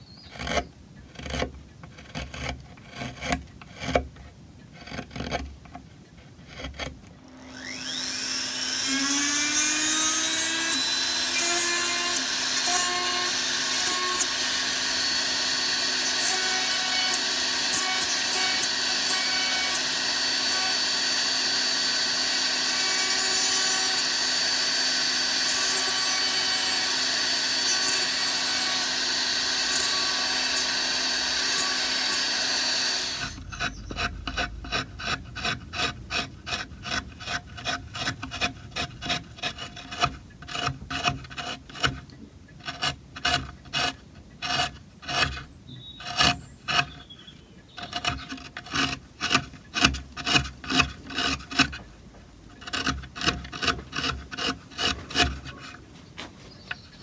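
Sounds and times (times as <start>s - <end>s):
rotary carving tool whining: 0.0s - 4.1s, 4.7s - 51.9s, 52.5s - 55.9s
gouge scraping wood: 0.1s - 7.1s, 8.9s - 51.9s, 52.5s - 56.9s.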